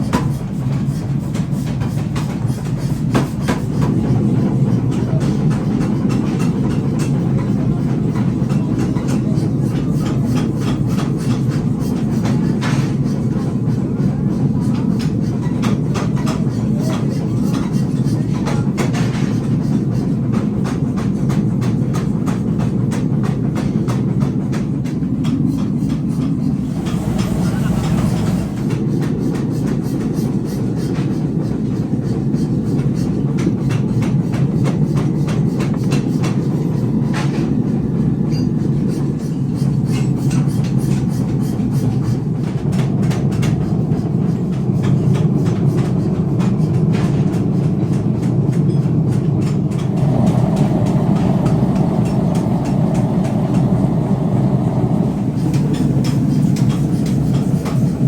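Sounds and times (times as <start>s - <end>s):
factory machinery running: 0.0s - 29.6s, 37.1s - 58.0s.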